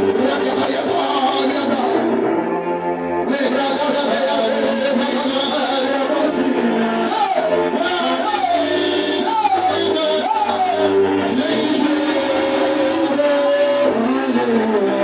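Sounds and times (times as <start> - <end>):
live instrumental backing: 0.0 - 15.0
person singing: 0.0 - 15.0.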